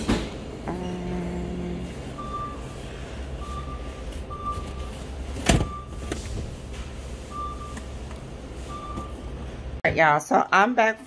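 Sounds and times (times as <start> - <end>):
low hum of machinery: 0.0 - 11.0.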